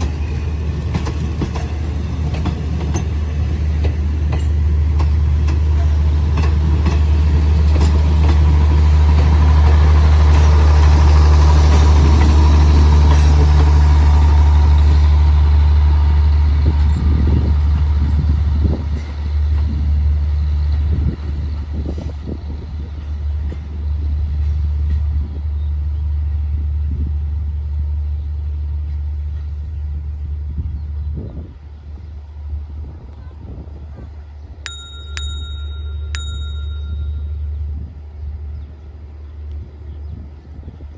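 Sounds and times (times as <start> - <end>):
diesel train engine droning: 0.0 - 33.0, 34.2 - 40.9
wheel and rail noise: 0.0 - 40.9.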